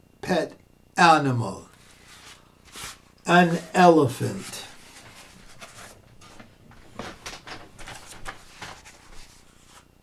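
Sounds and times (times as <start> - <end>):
picture book pages rustling: 1.7 - 10.0
page turning: 1.8 - 9.9.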